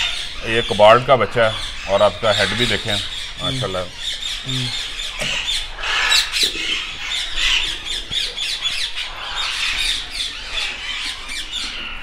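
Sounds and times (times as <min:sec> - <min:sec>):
parakeets squawking: 0:00.0 - 0:12.0.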